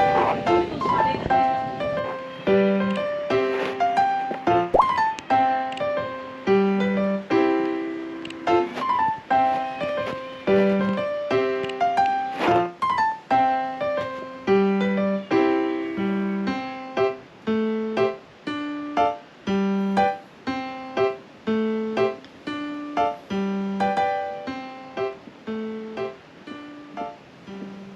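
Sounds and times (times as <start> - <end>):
piano tune: 0.0 - 27.9.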